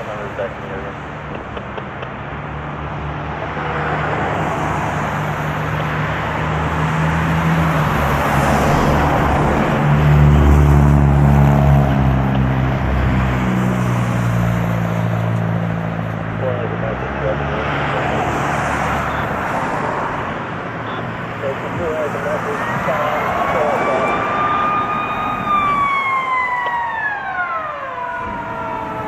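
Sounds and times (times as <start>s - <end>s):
tyre and road noise: 0.0s - 29.0s.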